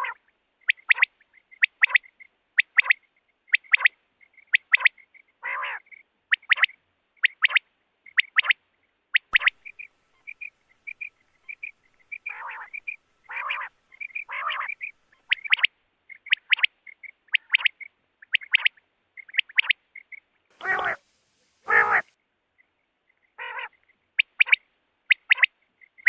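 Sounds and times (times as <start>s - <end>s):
harsh raspy bird calls: 0.0s - 8.6s, 9.2s - 21.0s, 21.6s - 22.1s, 23.4s - 26.0s
quail calling: 0.0s - 22.1s, 23.4s - 26.0s.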